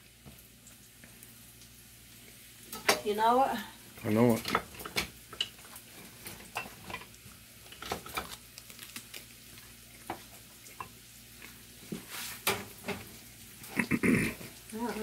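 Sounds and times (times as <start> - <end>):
food frying in a skillet: 0.0 - 15.0.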